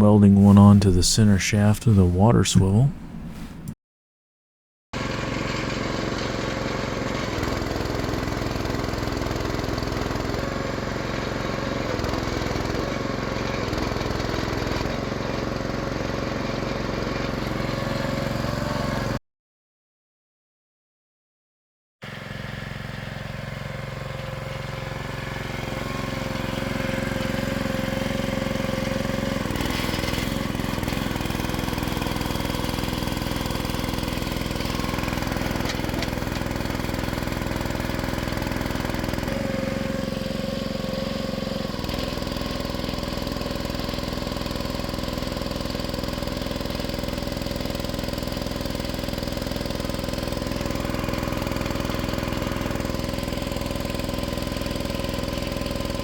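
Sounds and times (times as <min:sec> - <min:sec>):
small engine running: 0:05.0 - 0:19.2, 0:22.1 - 0:56.0.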